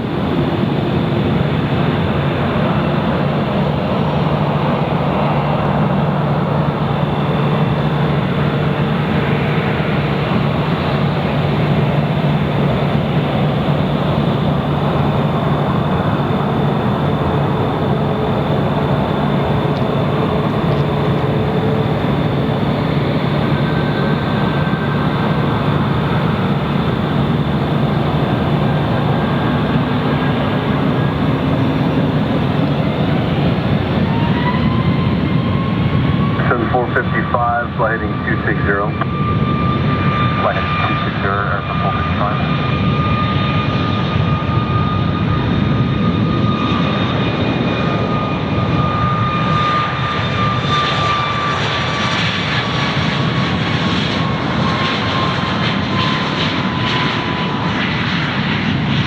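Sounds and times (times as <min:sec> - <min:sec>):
jet engines at takeoff power: 0:00.0 - 0:59.0.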